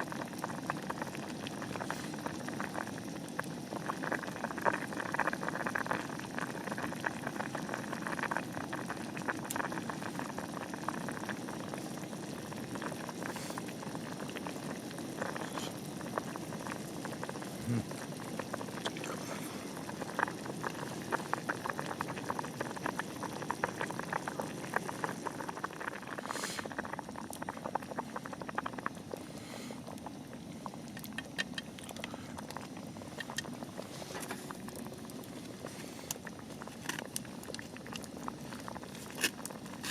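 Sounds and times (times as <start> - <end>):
liquid boiling in a pot: 0.0 - 39.9.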